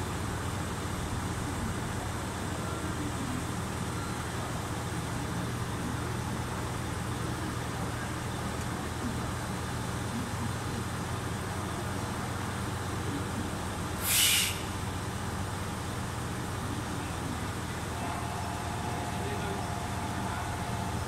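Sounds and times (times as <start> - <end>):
train idling hum: 0.0 - 21.0.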